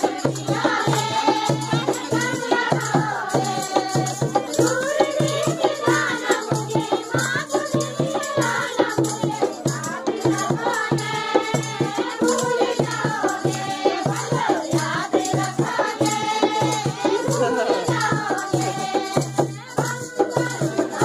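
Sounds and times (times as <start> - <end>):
rhythmic hand-clapping: 0.0 - 21.0
women singing folk song: 0.0 - 21.0.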